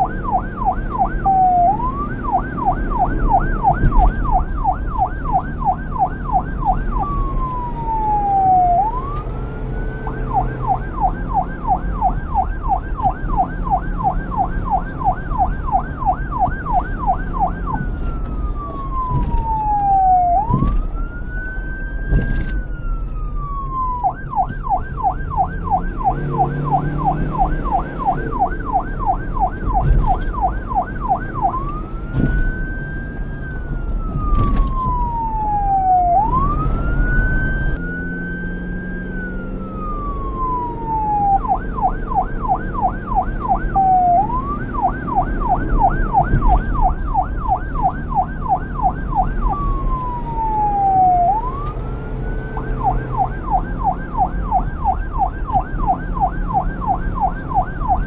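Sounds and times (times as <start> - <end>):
police siren yelp and wail: 0.0 - 58.0.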